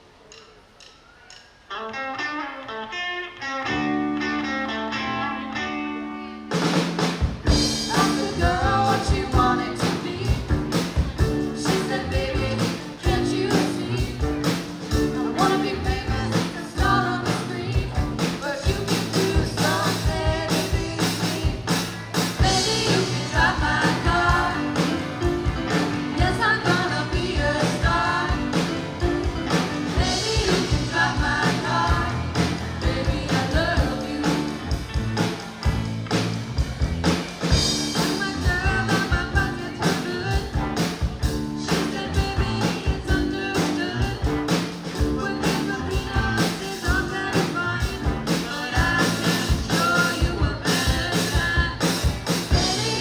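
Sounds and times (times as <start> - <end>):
electric guitars: 1.7 - 53.0
bass guitar: 1.8 - 53.0
drum kit: 6.4 - 53.0
person singing: 7.5 - 35.0, 37.9 - 53.0.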